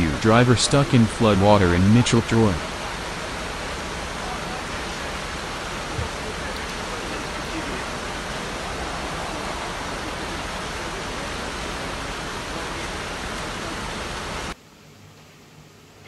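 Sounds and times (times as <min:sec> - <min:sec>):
floodwater rushing: 0:00.0 - 0:14.6.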